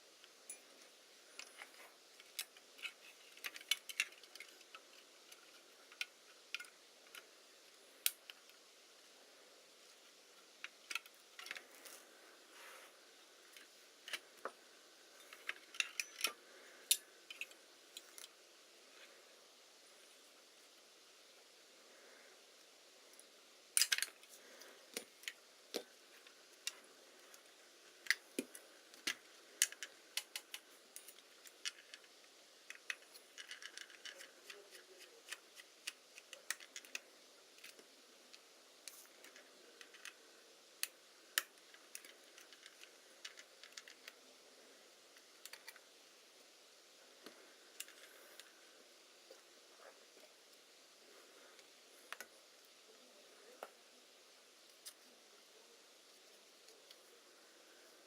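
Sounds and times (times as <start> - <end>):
small parts and tools clicking: 0.1 - 8.8, 9.5 - 19.1, 23.0 - 53.9, 54.5 - 58.0.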